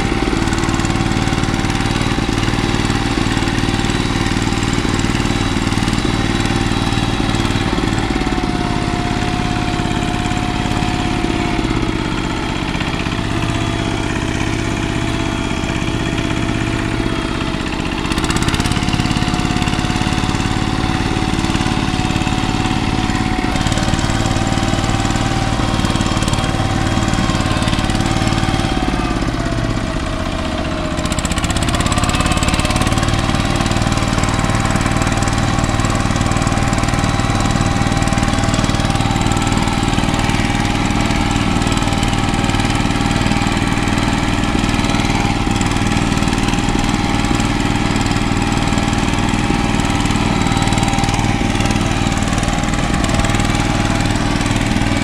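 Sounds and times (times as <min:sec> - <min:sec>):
diesel engine clattering: 0:00.0 - 0:55.0.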